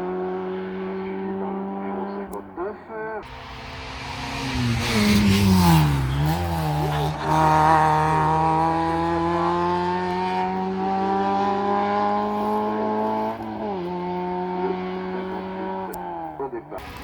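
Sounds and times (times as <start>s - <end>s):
race car engine at high revs: 0.0s - 2.6s, 3.2s - 17.0s.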